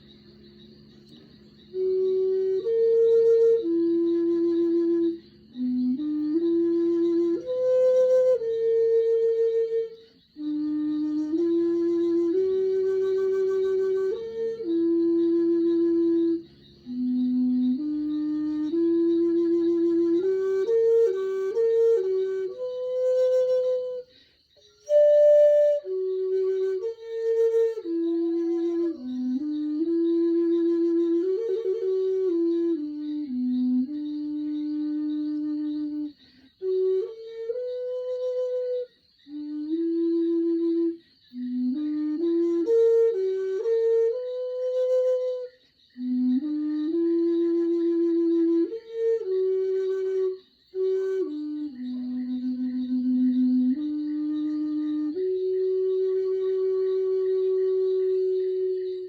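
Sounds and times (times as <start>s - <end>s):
bamboo flute melody: 0.0s - 59.0s.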